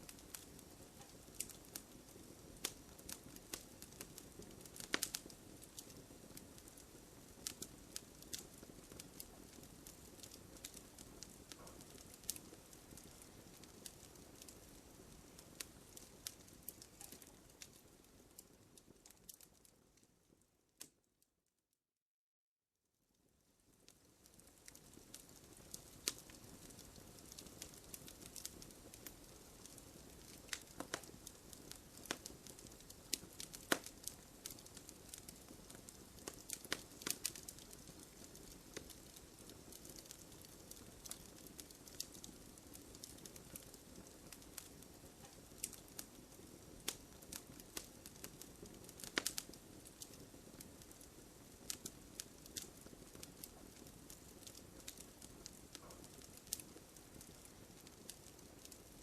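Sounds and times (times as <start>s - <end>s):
burning wood crackling and popping: 0.0s - 20.9s, 23.6s - 59.0s
soft steady fire hiss: 0.0s - 21.3s, 22.9s - 59.0s.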